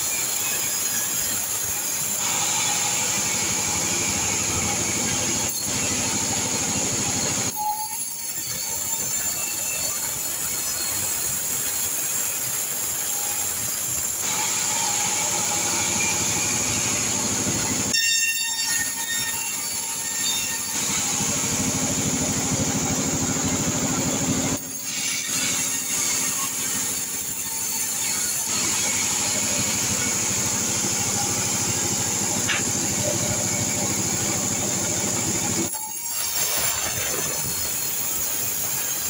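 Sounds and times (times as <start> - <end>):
band saw cutting log: 0.0 - 39.0.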